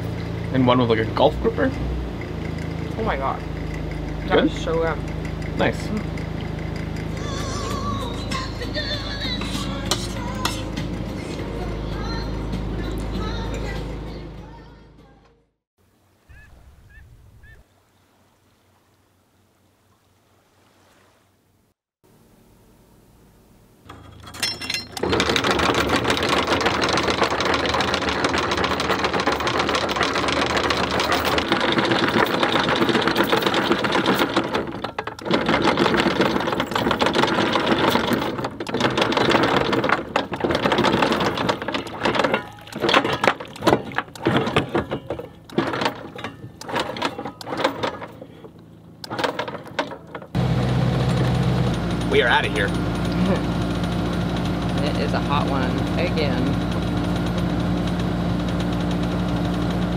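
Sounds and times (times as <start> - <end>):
low engine hum: 0.0 - 15.5, 24.8 - 59.9
anchor chain rattling: 0.3 - 12.3, 23.9 - 59.9.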